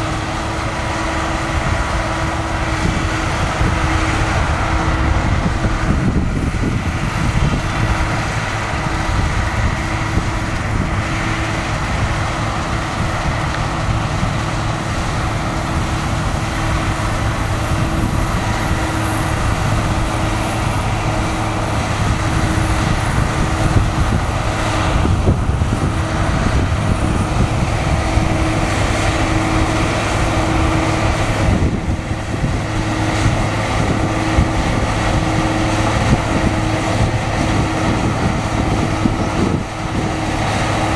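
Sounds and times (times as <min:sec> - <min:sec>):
combine harvester engine droning: 0:00.0 - 0:40.9.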